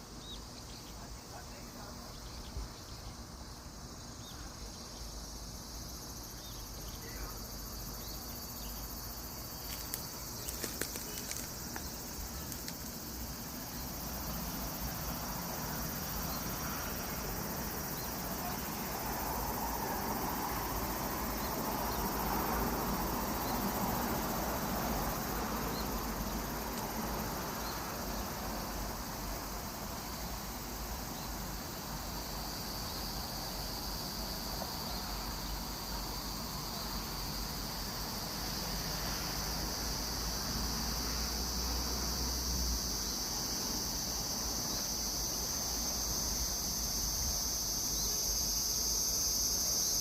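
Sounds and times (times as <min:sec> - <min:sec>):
cicadas buzzing chorus: 0:00.0 - 0:50.0.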